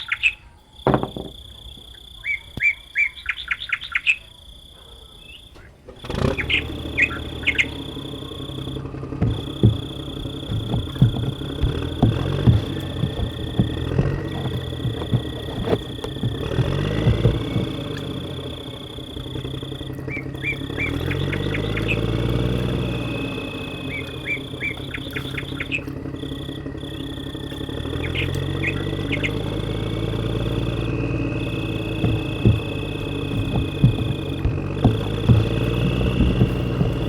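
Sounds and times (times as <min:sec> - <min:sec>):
birds chirping: 0:00.0 - 0:37.0
small motor running: 0:05.9 - 0:37.0.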